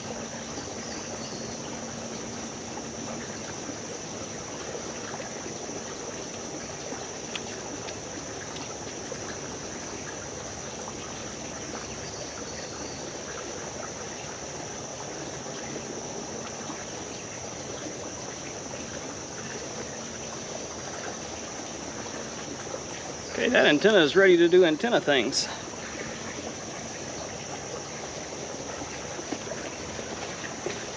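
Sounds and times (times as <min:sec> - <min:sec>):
creek water running: 0:00.0 - 0:30.9.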